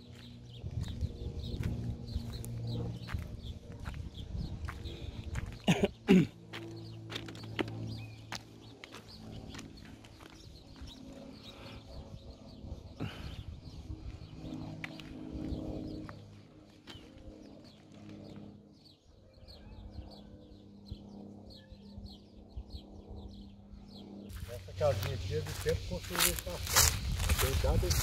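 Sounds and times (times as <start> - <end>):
birds calling and chirping: 0.0 - 28.0.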